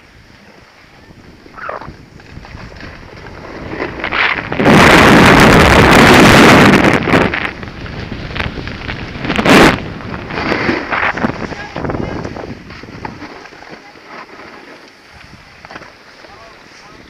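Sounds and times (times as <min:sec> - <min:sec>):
wind buffeting microphone: 0:00.0 - 0:13.7, 0:15.0 - 0:17.0.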